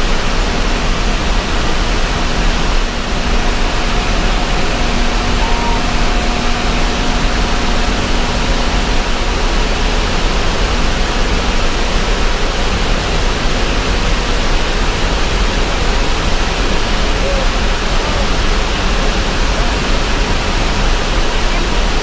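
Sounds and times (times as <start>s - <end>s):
water rushing from a dam: 0.0s - 22.0s.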